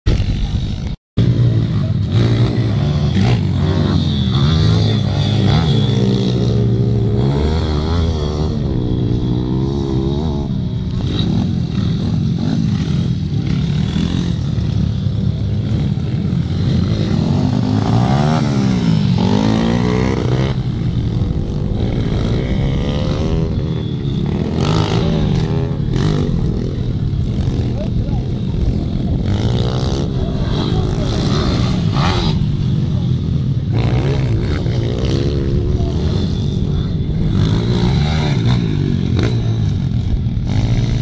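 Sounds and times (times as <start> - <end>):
dirt bike engines revving: 0.1 - 41.0.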